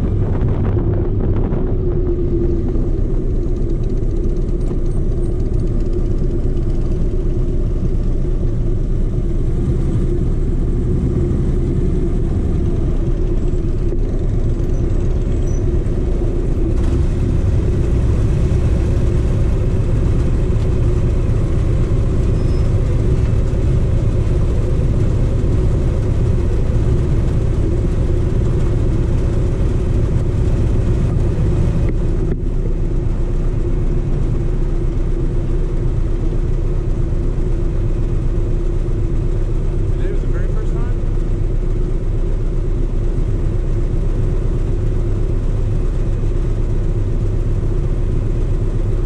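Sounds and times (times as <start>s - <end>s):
motorcycle engine idling: 2.6s - 49.0s.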